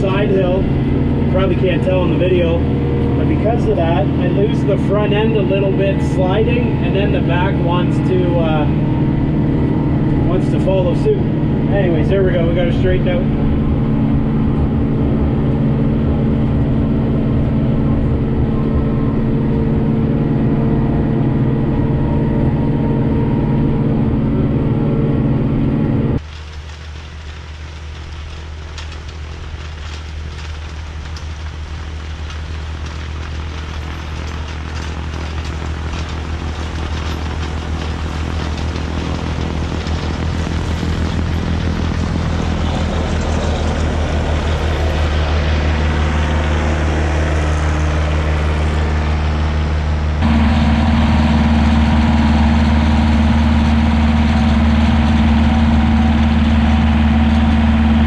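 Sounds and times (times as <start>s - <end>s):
snowblower throwing snow: 0.0s - 23.5s, 24.4s - 58.0s
tractor diesel engine under load: 0.0s - 58.0s.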